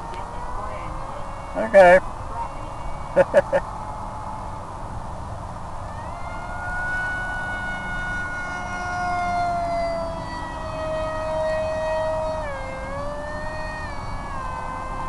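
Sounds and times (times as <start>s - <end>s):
electric motor and propeller whining: 0.0s - 4.8s, 5.7s - 15.0s.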